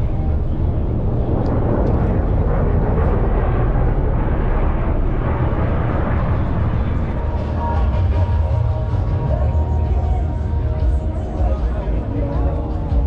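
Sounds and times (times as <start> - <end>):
aircraft engine rumbling overhead: 0.0 - 13.0.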